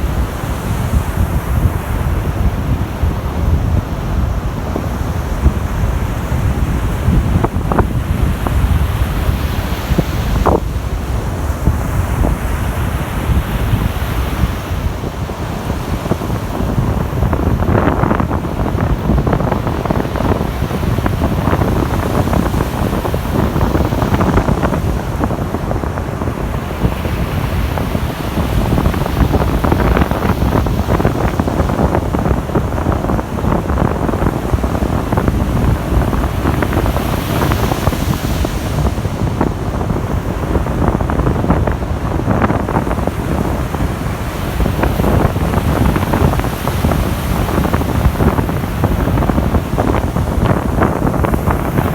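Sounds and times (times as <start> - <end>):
surf washing onto sand: 0.0 - 51.9
wind buffeting microphone: 0.0 - 51.9.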